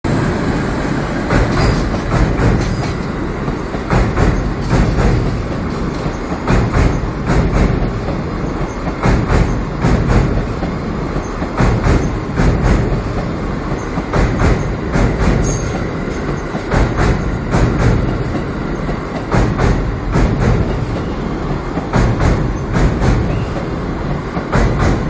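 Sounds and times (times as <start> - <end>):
steel wheels rumbling on rail: 0.0 - 25.0
wheels clacking over rail joints: 1.0 - 25.0.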